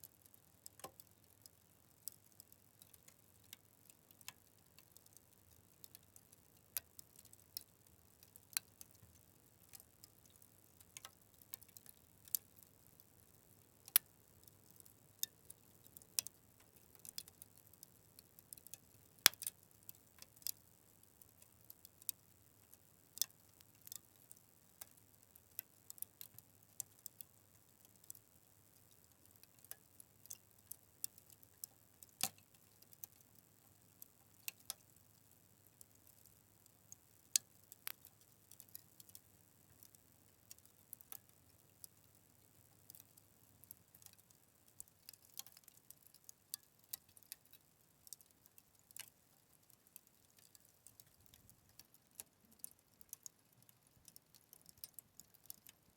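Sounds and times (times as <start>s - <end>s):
fire crackling and popping: 0.1s - 55.8s.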